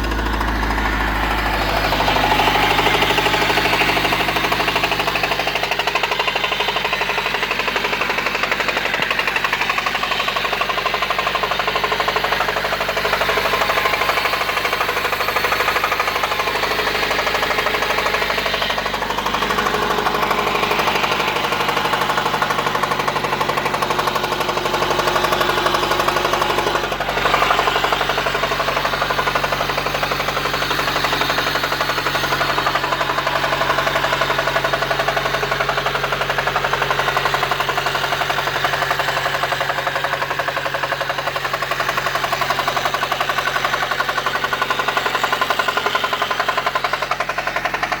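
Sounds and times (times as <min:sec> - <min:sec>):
engine running with rapid knock: 0:00.0 - 0:48.0.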